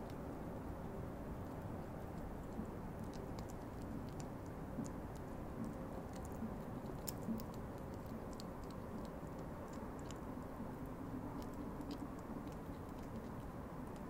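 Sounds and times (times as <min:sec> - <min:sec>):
hedgehog chewing food pellets: 0:00.0 - 0:14.0
low background noise: 0:00.0 - 0:14.0.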